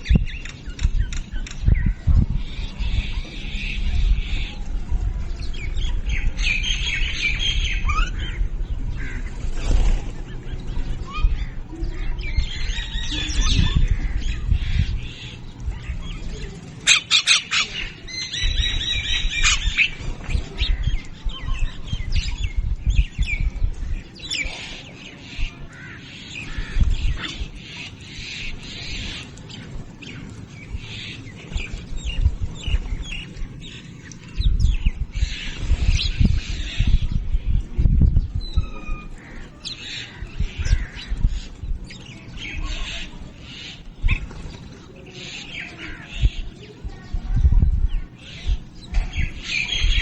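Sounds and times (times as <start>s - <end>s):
low rumbles: 0.0s - 16.9s, 17.7s - 45.0s
birds chirping and calling: 0.0s - 50.0s.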